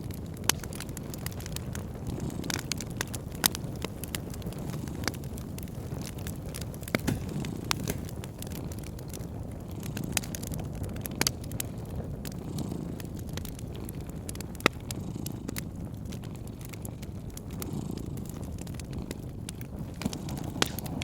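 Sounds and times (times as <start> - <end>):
cat purring: 0.0 - 21.0
wood fire crackling and popping: 0.0 - 21.0.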